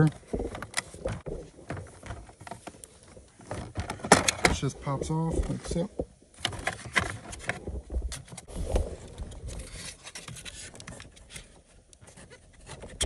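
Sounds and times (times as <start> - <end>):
plastic panel scraping and rubbing: 0.0 - 13.0.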